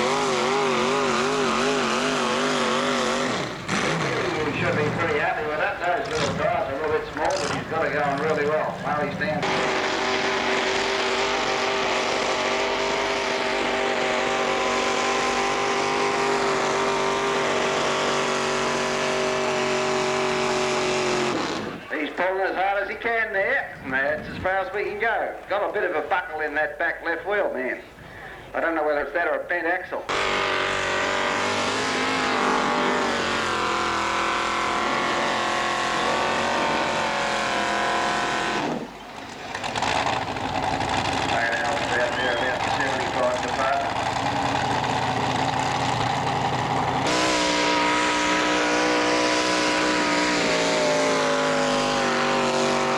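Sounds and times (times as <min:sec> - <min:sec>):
tractor engine under heavy load: 0:00.0 - 0:23.1, 0:30.1 - 0:52.9.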